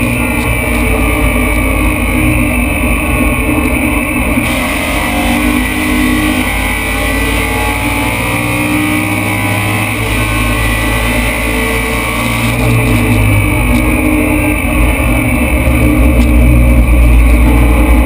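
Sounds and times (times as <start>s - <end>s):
race car engine under load: 0.0s - 18.0s.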